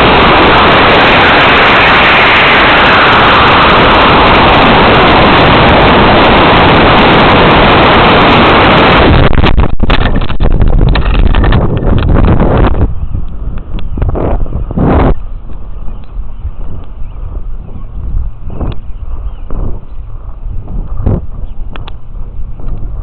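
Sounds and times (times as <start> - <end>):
model rocket motor rushing: 0.0 - 23.0.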